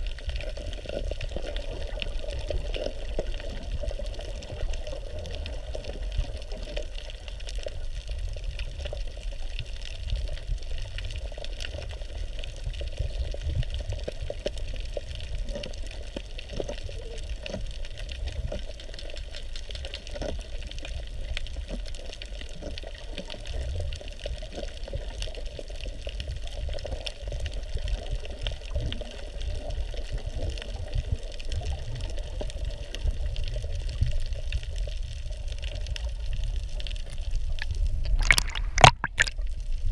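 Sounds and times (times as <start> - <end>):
faint underwater clicks and crackles: 0.0 - 39.9
underwater rumble and hiss: 0.0 - 39.9.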